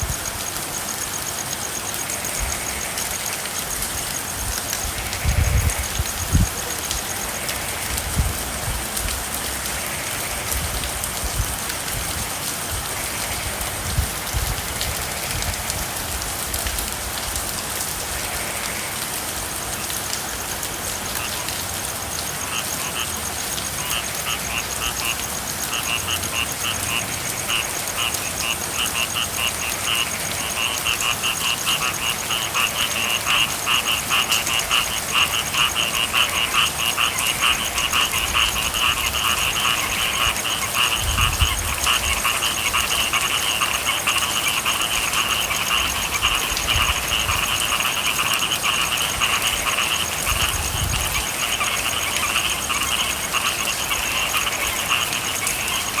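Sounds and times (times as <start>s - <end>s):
frogs calling: 0.0s - 56.0s
steady rain: 0.0s - 56.0s.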